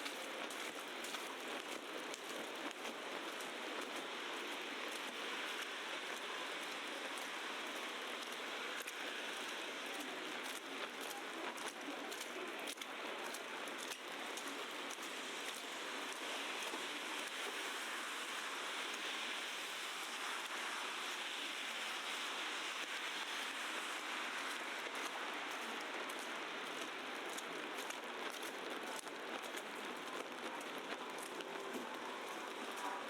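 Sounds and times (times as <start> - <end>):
wet snow falling hiss: 0.0 - 33.0.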